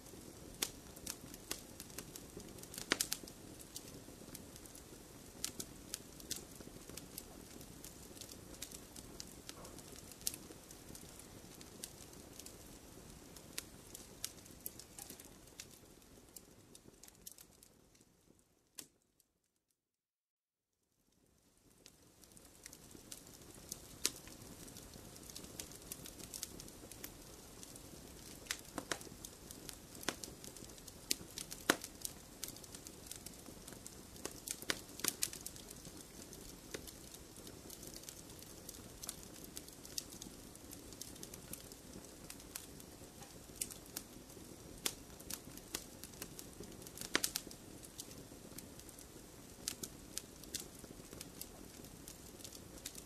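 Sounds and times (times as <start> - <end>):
wood fire crackling and popping: 0.0 - 19.0, 21.2 - 53.0.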